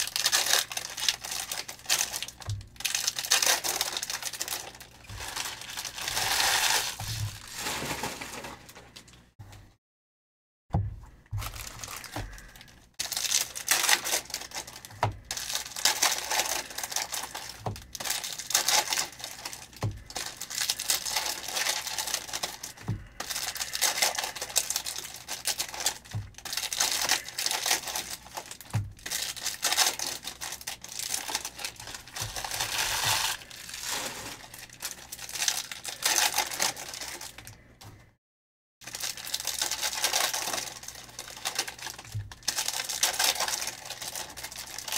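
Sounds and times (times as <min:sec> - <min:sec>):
card wrappers crinkling and tearing: 0:00.0 - 0:09.2, 0:11.4 - 0:37.7, 0:38.8 - 0:44.9.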